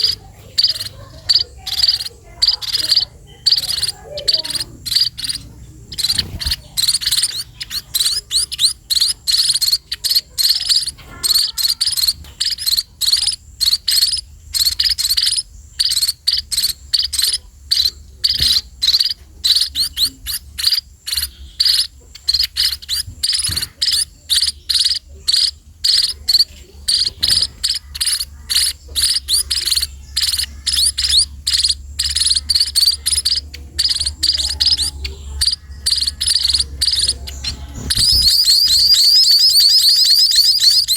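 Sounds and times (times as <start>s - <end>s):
high-pitched chirping: 0.0s - 40.9s.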